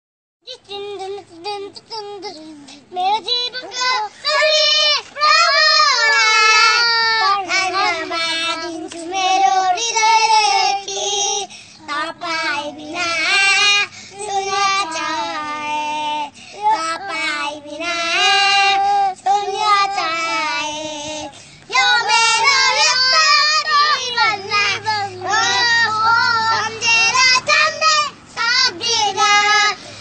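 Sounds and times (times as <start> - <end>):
boys singing: 0.5 - 30.0.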